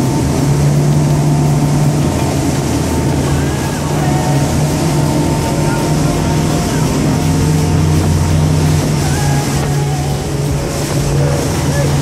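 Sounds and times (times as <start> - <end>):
outboard engines droning: 0.0 - 12.0
water rushing along hull: 0.0 - 12.0.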